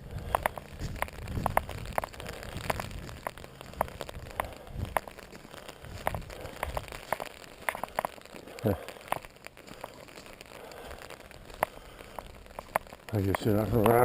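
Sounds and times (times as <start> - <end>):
raindrops tapping on umbrella: 0.0 - 14.0.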